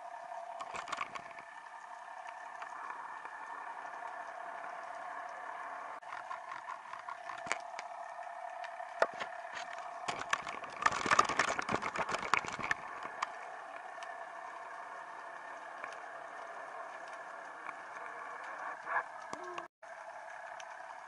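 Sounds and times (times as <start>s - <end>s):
underwater steady hum: 0.0s - 21.0s.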